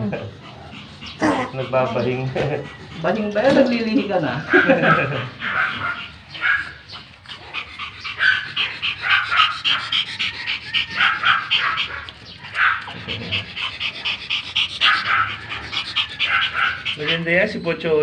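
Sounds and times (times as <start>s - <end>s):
dog panting fast: 0.0s - 18.0s.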